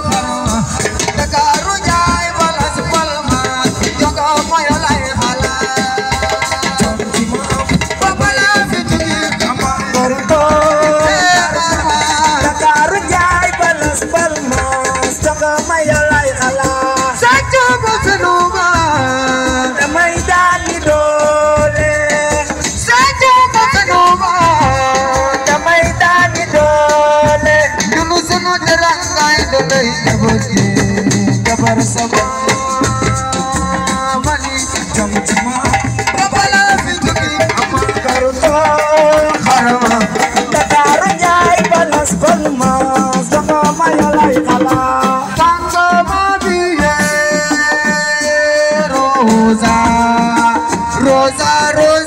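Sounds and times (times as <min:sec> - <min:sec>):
band singing over drums: 0:00.0 - 0:52.0.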